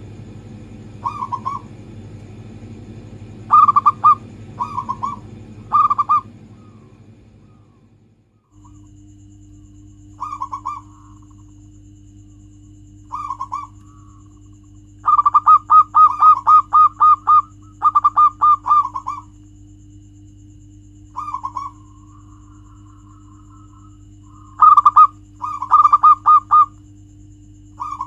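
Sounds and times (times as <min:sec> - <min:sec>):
steady low hum: 0:00.0 - 0:28.0
dove cooing: 0:00.9 - 0:02.1, 0:03.2 - 0:08.9, 0:09.5 - 0:19.4, 0:21.1 - 0:26.8, 0:27.7 - 0:28.0.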